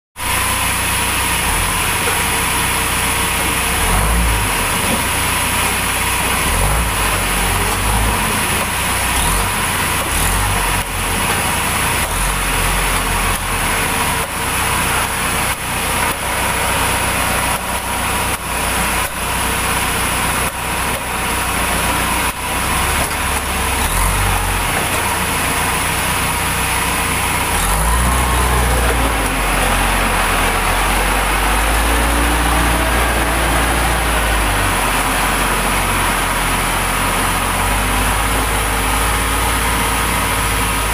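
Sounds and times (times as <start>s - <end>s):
high machine whine: 0.2s - 40.9s
sawmill machinery drone: 0.2s - 40.9s.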